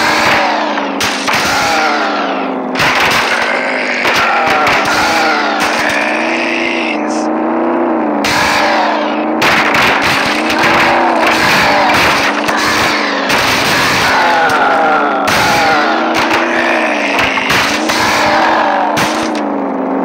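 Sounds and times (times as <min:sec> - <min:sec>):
video game car engine revving: 0:00.0 - 0:20.0.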